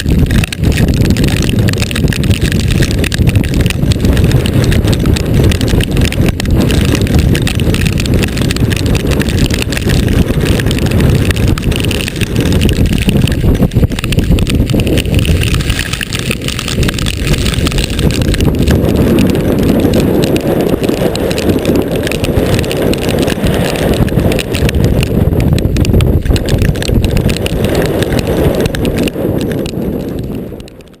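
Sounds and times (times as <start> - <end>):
gusty wind buffeting microphone: 0.0 - 31.0.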